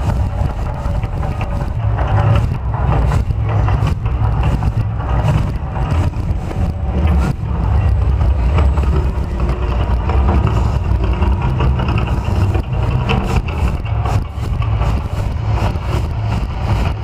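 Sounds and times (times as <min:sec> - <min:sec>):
loud low rumble: 0:00.0 - 0:17.0
rushing noise: 0:00.0 - 0:17.0.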